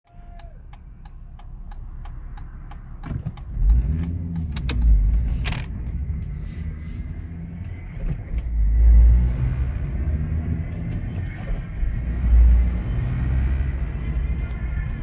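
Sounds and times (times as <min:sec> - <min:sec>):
low engine rumble: 0:00.1 - 0:15.0.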